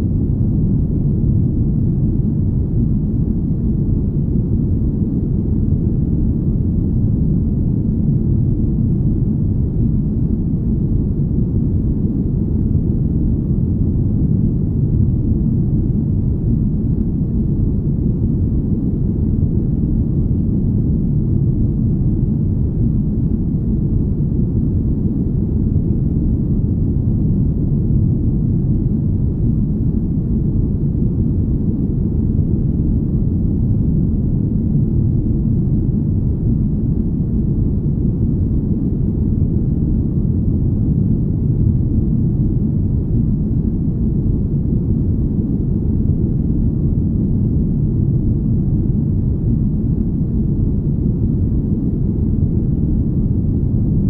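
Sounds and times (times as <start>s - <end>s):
deep smooth rumble: 0.0s - 54.0s.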